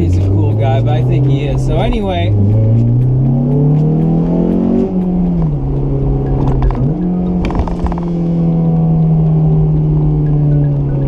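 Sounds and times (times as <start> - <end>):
car engine revving high: 0.0 - 11.0.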